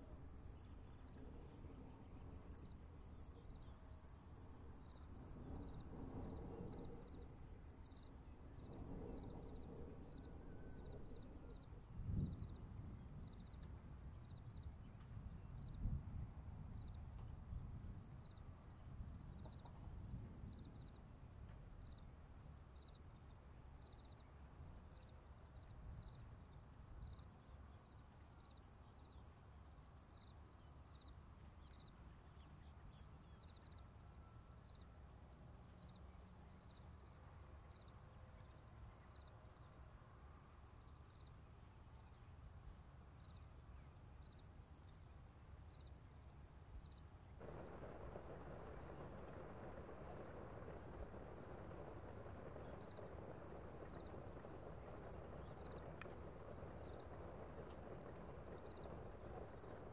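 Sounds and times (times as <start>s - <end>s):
insect trill: 0.0s - 59.9s
short insect chirp: 0.0s - 59.9s.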